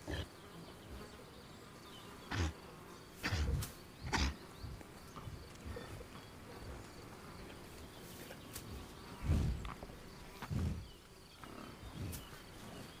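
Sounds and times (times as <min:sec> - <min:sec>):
flies buzzing: 0:00.0 - 0:13.0.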